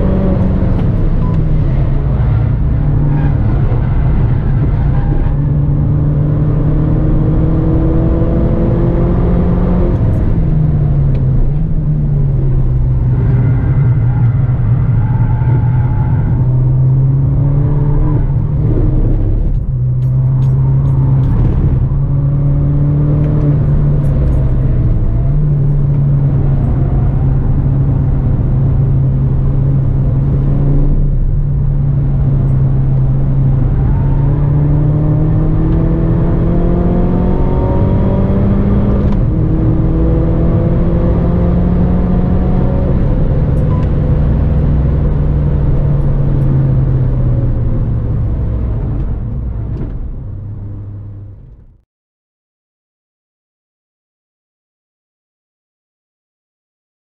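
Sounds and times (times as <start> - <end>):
car engine revving: 0.0 - 51.6
road and wind noise: 0.0 - 51.8.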